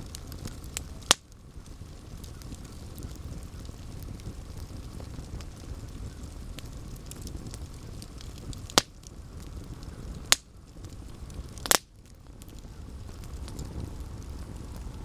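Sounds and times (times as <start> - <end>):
burning wood popping: 0.0 - 15.0
campfire crackling: 0.0 - 15.0.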